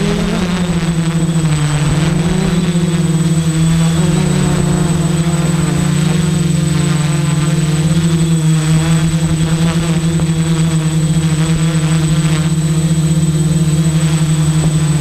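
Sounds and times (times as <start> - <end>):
quadcopter propellers buzzing: 0.0 - 15.0
thin high whine: 0.0 - 15.0.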